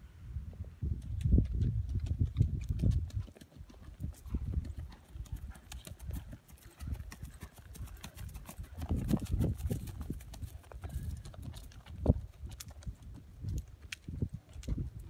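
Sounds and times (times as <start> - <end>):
horse hoofbeats on dirt: 1.0 - 15.0.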